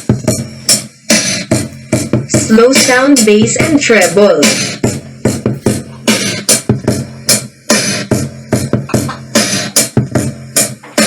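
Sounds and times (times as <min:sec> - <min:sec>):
sharp beat hits: 0:00.0 - 0:11.0.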